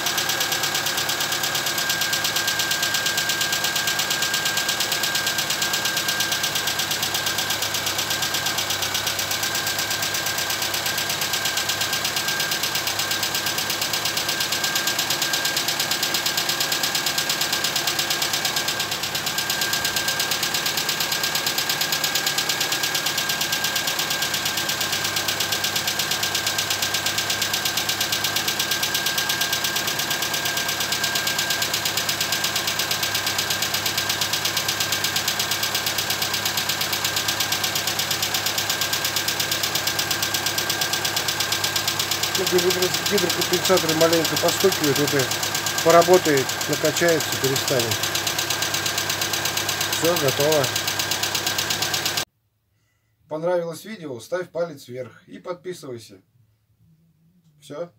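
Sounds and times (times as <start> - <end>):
car engine idling: 0.0 - 52.2
rapid lifter ticking: 0.1 - 52.2.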